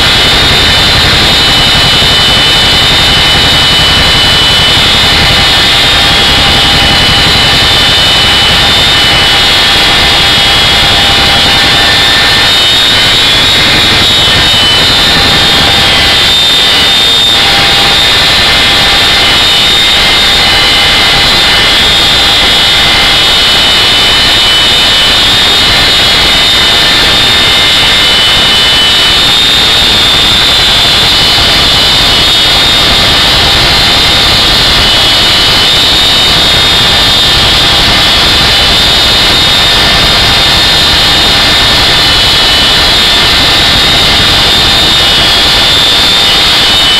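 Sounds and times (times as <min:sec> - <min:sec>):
helicopter cabin noise: 0:00.0 - 0:46.9
high engine whine: 0:00.0 - 0:46.9.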